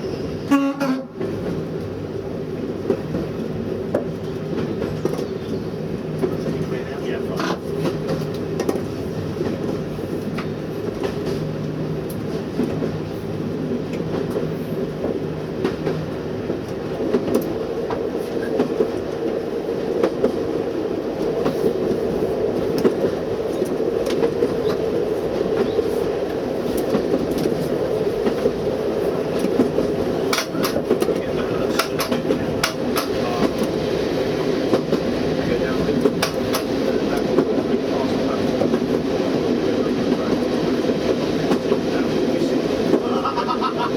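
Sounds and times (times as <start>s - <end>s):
rail joint clicks: 0.0s - 43.9s
train wheels rumbling on rail: 0.0s - 43.9s.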